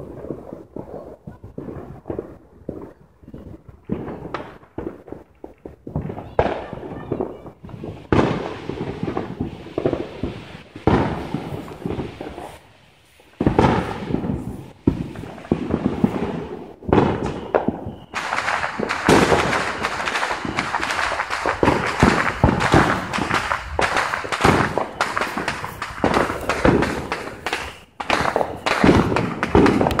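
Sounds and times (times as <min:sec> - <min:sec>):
fireworks and firecrackers: 0:00.0 - 0:30.0.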